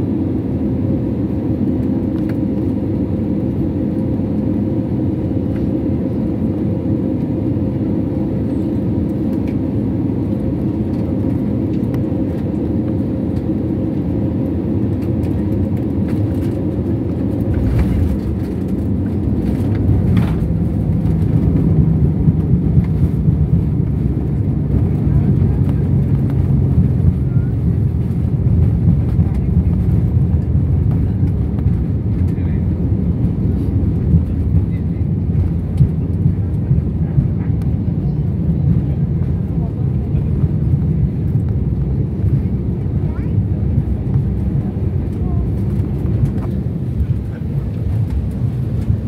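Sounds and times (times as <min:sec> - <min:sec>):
jet engine hum in cabin: 0:00.0 - 0:49.0.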